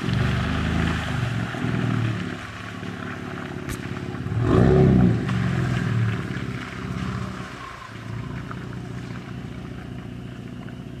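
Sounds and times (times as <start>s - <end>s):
truck engine under throttle: 0.0s - 11.0s.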